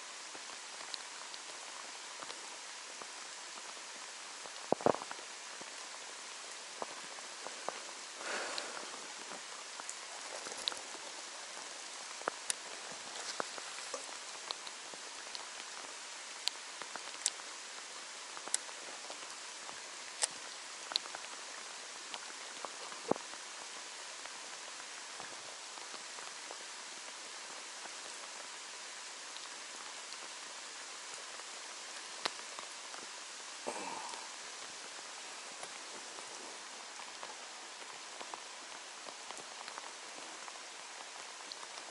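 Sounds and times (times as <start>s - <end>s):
rain hiss: 0.0s - 41.9s
raindrops ticking nearby: 0.0s - 41.9s.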